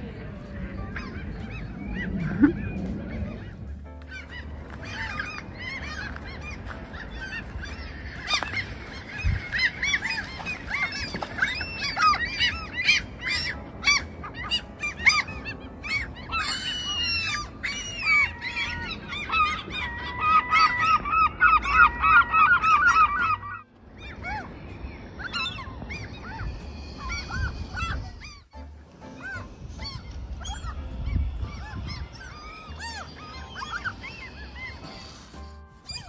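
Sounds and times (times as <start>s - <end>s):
gulls calling: 0.0s - 36.0s.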